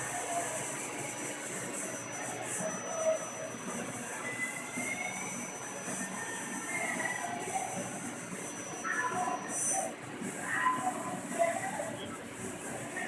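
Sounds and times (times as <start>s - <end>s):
lathe running with high whine: 0.0s - 13.0s.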